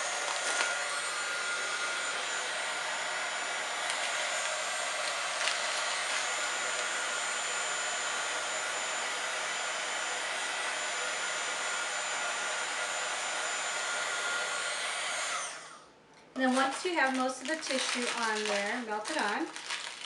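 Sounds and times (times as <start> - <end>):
heat tool fan blowing: 0.0 - 19.4.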